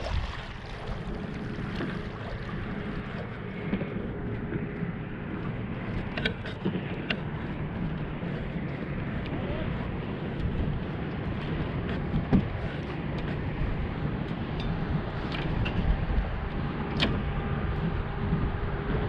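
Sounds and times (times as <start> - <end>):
water lapping against boat hull: 0.0 - 19.0
wind buffeting microphone: 0.0 - 19.0.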